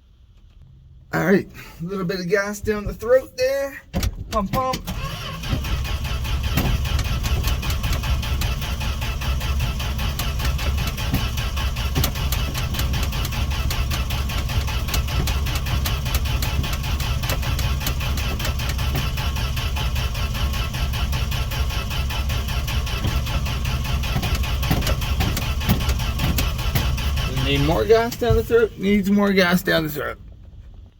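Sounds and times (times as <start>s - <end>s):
engine cranking on starter: 2.6s - 30.9s.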